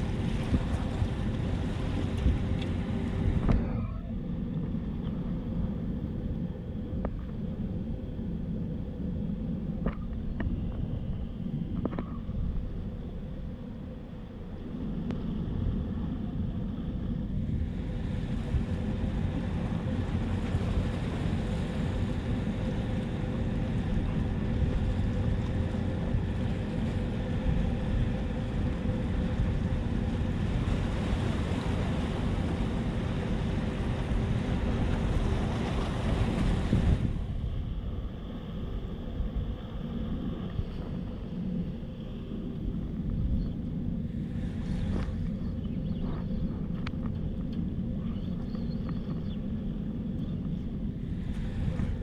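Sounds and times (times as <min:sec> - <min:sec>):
wind buffeting microphone: 0:00.0 - 0:08.1, 0:08.8 - 0:52.0
steady low hum: 0:00.0 - 0:52.0.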